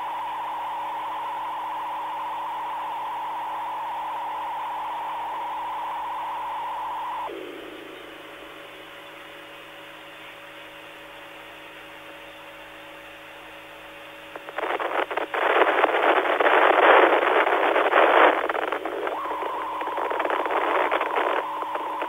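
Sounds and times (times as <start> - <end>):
loud crackling static: 0.0 - 10.6, 13.4 - 22.0
radio hiss with faint tones: 0.0 - 22.0.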